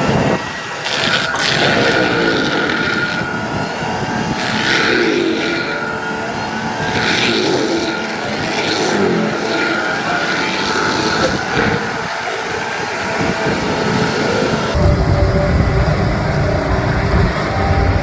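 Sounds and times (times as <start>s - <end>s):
diesel engine rising and falling: 0.0s - 18.0s
mulching head high whine: 0.0s - 18.0s
harsh grinding of wood: 0.2s - 14.8s.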